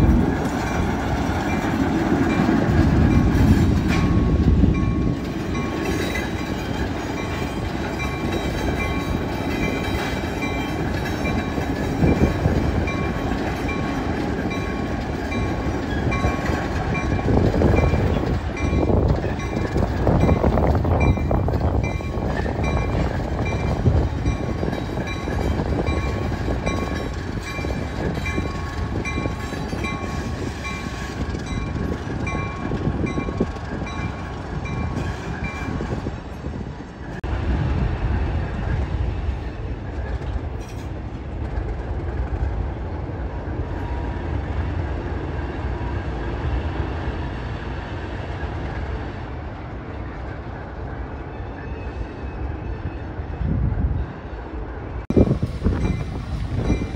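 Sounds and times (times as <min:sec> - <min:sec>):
diesel locomotive engine rumbling: 0:00.0 - 0:56.9.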